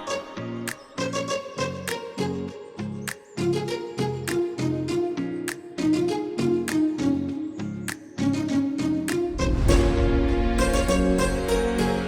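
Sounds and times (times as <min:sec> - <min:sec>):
plucked-string music with beat: 0:00.0 - 0:12.0.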